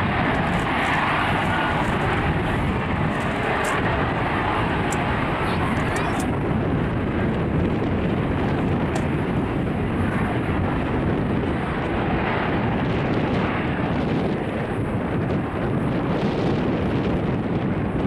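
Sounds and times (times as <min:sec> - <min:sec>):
jet engine roar with hiss: 0:00.0 - 0:18.0.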